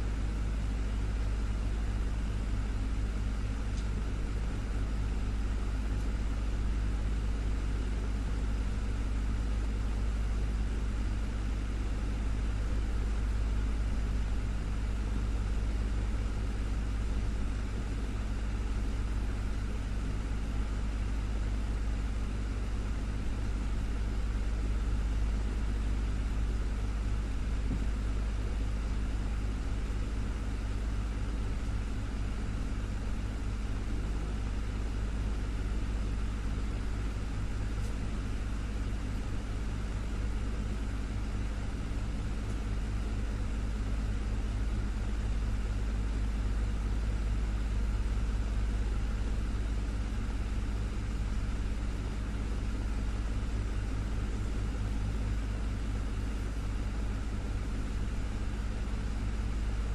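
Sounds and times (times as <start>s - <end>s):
desktop fan running: 0.0s - 59.9s.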